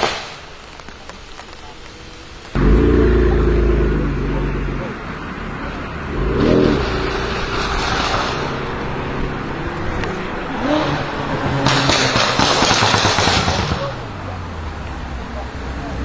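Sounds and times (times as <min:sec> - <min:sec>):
exhaust crackles and pops: 0:00.0 - 0:16.0
car engine revving: 0:01.4 - 0:16.0.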